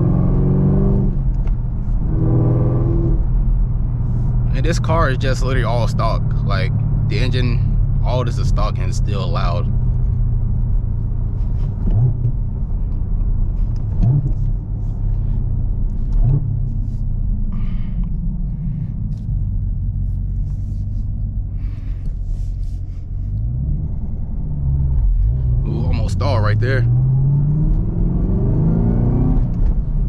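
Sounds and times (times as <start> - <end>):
car engine running and revving: 0.0 - 30.0.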